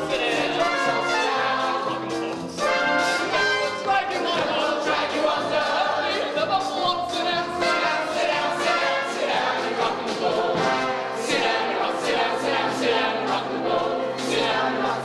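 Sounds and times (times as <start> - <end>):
pit orchestra: 0.0 - 15.0.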